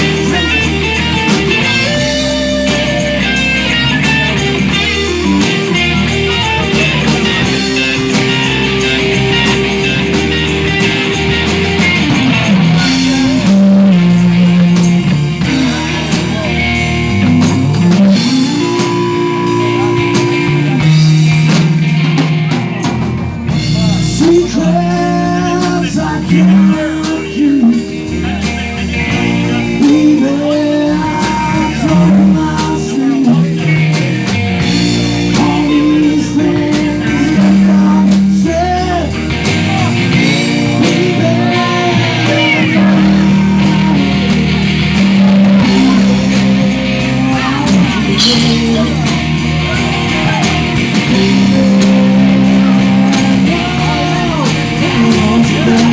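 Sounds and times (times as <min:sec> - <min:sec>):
bass: 0:00.0 - 0:55.9
drum kit: 0:00.0 - 0:55.9
electric guitar: 0:00.0 - 0:55.9
lead guitar bending pitch: 0:00.0 - 0:55.9.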